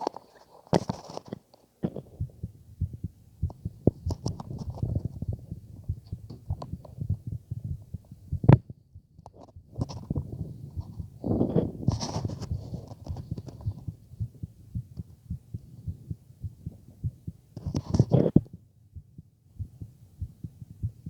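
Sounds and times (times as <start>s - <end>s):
heartbeat thumps: 1.8s - 21.0s.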